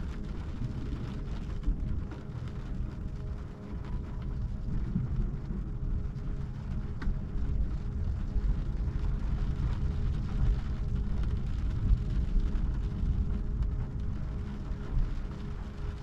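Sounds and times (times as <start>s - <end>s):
faint steady hum: 0.0s - 16.0s
storm rumbling against car: 0.0s - 16.0s.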